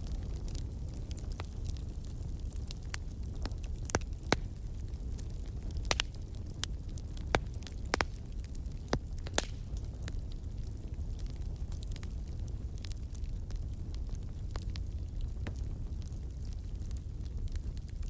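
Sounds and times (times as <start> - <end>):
burning wood popping and crackling: 0.0 - 18.0
low rumble of flames: 0.0 - 18.0.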